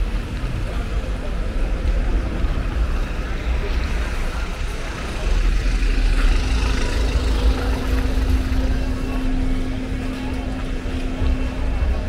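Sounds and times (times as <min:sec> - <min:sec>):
car engines idling: 0:00.0 - 0:12.0
low steady traffic rumble: 0:00.0 - 0:12.0.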